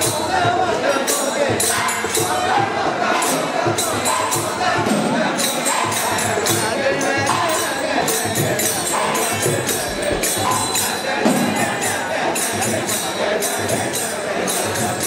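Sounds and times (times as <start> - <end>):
percussion struck in steady rhythm: 0.0 - 15.0.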